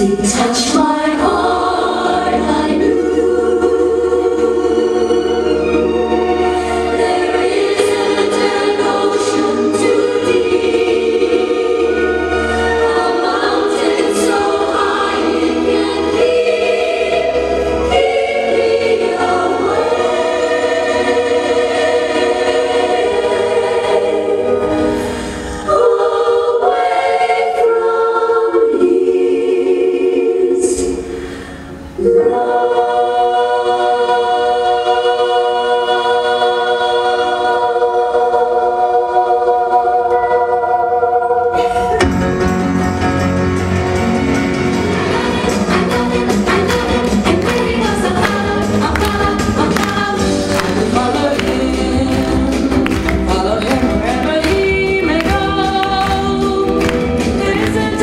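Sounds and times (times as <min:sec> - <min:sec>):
choir singing with music: 0:00.0 - 0:58.0.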